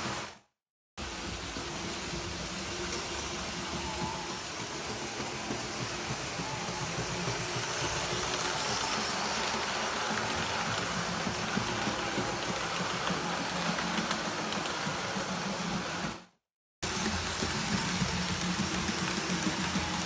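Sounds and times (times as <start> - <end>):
model train motor hum: 1.0 - 16.2, 16.8 - 20.0
wheels rattling on track: 1.4 - 16.1, 16.8 - 20.0.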